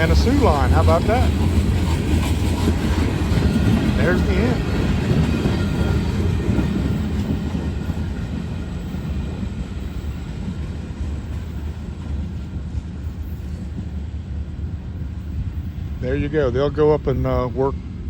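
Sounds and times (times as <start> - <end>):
train cars rumbling on rails: 0.0 - 18.0.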